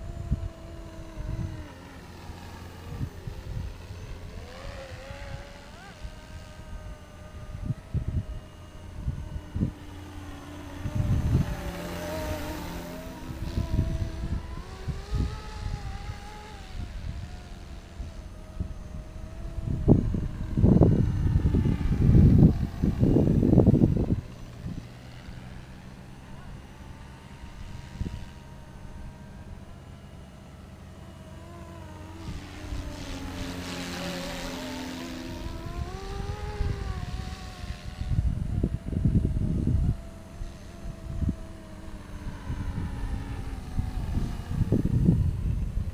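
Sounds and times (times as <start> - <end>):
wind buffeting microphone: 0.0 - 30.2, 31.2 - 45.9
model helicopter motor whine: 0.0 - 45.9.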